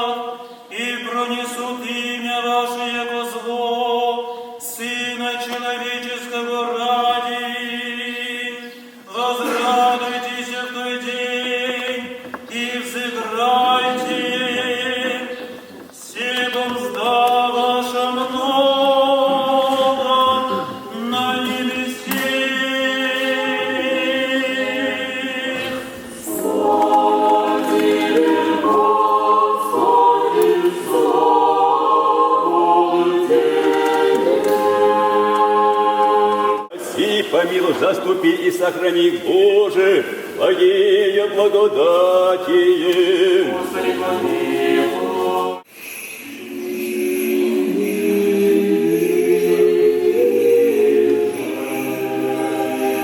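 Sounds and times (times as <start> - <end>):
choir singing unaccompanied chant: 0.0 - 37.6, 39.3 - 53.0.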